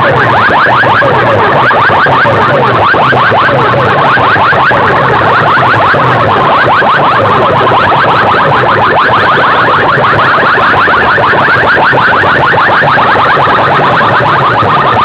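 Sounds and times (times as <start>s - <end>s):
rapid rising electronic chirps: 0.0s - 15.0s.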